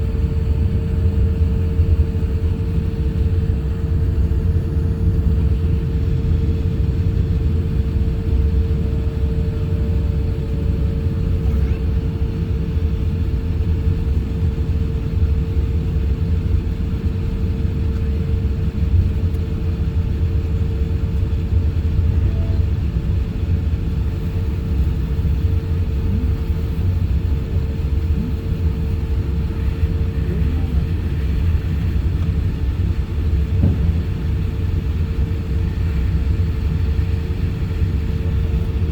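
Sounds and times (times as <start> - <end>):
airliner cabin rumble: 0.0 - 38.9
constant hum: 0.0 - 38.9.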